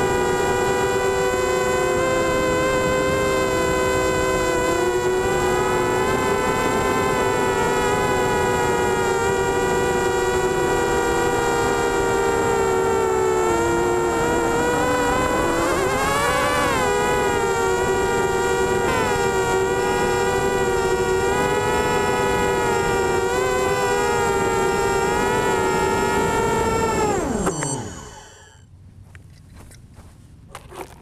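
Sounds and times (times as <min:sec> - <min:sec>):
quadcopter motors buzzing: 0:00.0 - 0:28.6.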